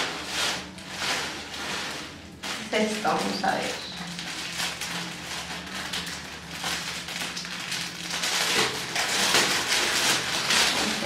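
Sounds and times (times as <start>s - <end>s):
gift wrapping crinkling: 0.0s - 11.0s.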